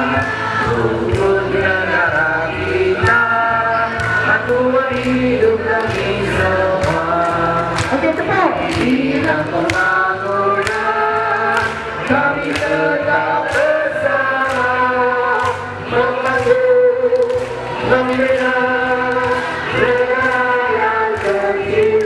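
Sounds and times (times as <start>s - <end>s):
group singing in chorus: 0.0s - 22.0s.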